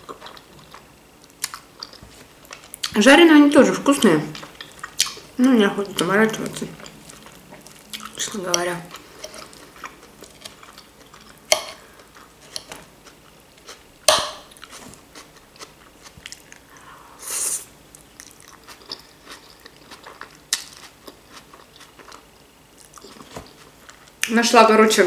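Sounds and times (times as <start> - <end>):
chewing and crunching salad: 0.0 - 17.0, 17.9 - 24.3.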